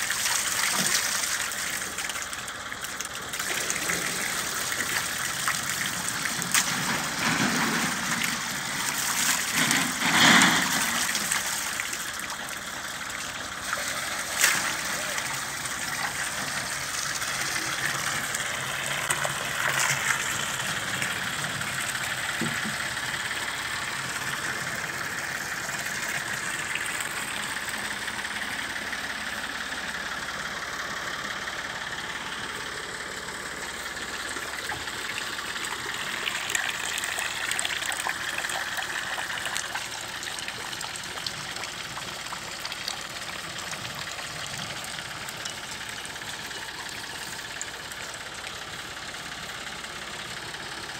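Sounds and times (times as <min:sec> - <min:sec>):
engine running: 0:00.0 - 0:50.9
water splashing and trickling: 0:00.0 - 0:50.9.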